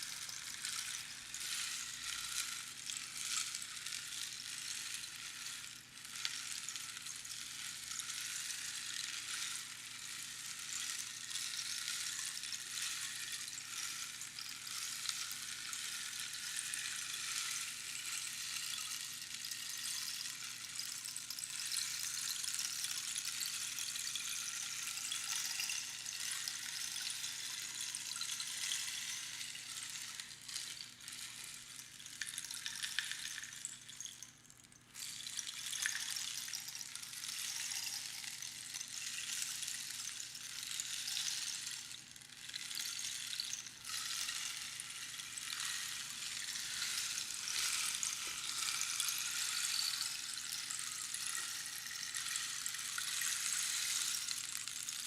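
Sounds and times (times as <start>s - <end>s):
rainstick pattering hiss: 0.0s - 55.0s.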